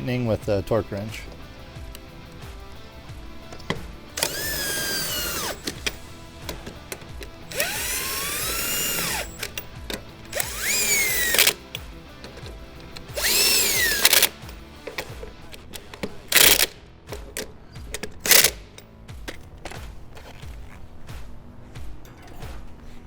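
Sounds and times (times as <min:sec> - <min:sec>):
background music: 0:00.0 - 0:23.0
impact wrench whine: 0:01.3 - 0:20.8.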